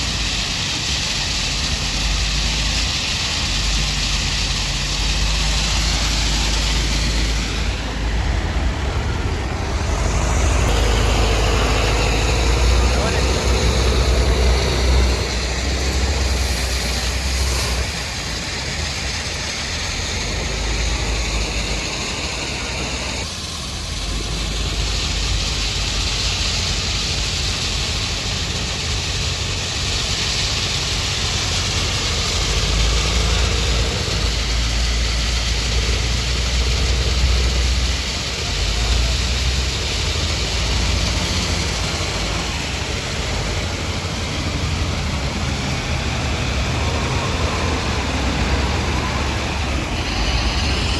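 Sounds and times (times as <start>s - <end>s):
diesel machinery rumbling: 0.0s - 50.9s.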